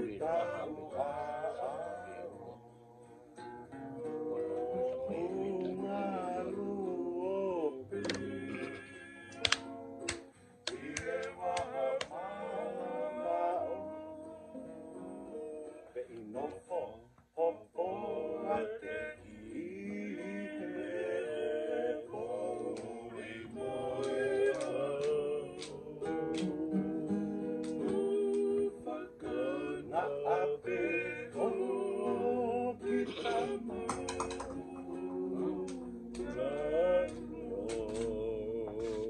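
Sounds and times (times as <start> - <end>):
men singing together: 0.0 - 2.6, 4.4 - 9.7, 10.7 - 39.0
ukulele: 0.0 - 16.6, 18.0 - 39.0
strummed acoustic guitars: 0.0 - 39.0.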